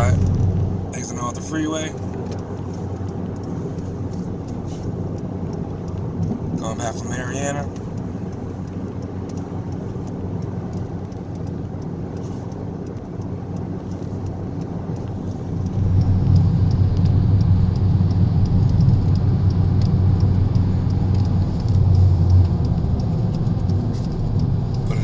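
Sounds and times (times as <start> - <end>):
car engine and road drone: 0.0 - 25.0.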